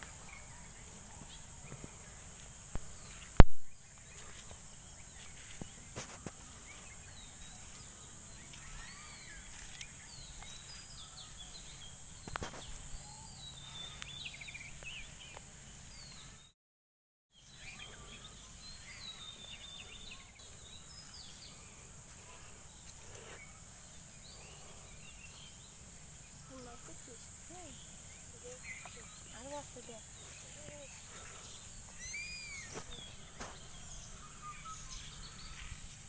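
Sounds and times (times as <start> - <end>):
high-pitched insect drone: 0.0 - 16.4, 17.4 - 36.0
small birds chirping: 0.0 - 16.6, 17.3 - 36.0.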